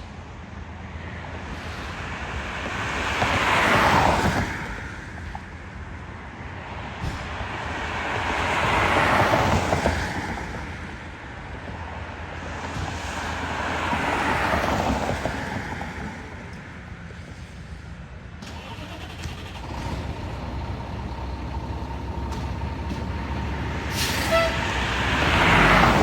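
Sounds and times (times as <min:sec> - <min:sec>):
fire trucks driving past: 0:00.0 - 0:26.0.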